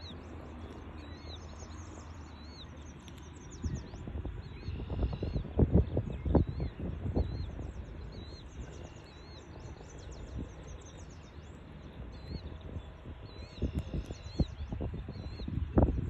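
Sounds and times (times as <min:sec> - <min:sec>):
small birds chirping: 0:00.0 - 0:16.0
steady outdoor hiss: 0:00.0 - 0:16.0.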